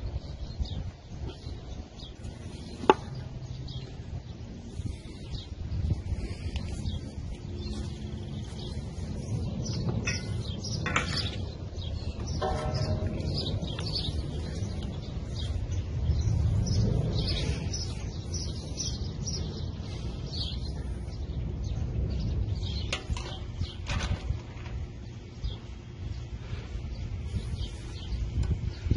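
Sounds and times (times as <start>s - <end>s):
small birds chirping: 0.0s - 28.9s
wind rumble on microphone: 0.0s - 28.9s.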